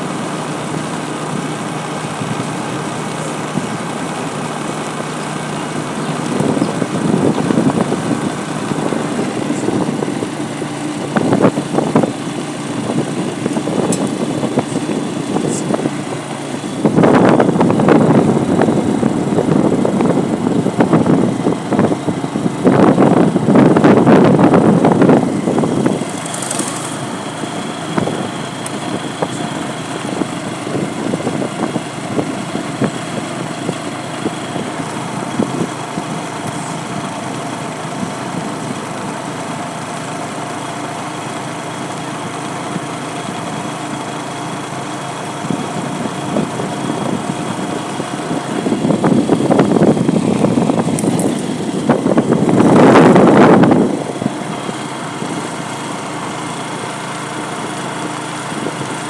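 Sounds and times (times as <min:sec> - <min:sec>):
small vehicle engine running: 0:00.0 - 0:59.0.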